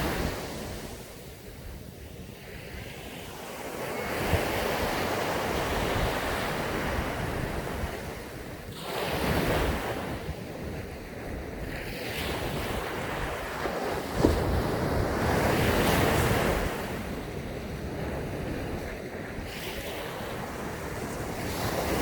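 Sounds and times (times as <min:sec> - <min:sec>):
waves breaking on beach: 0:00.0 - 0:22.0
wind on microphone: 0:00.0 - 0:22.0.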